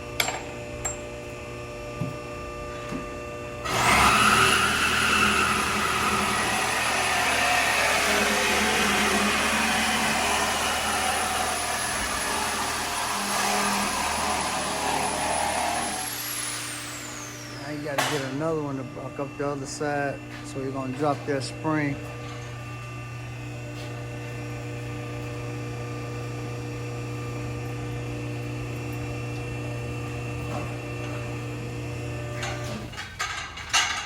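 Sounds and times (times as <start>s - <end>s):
air tool high whine: 3.6s - 33.9s.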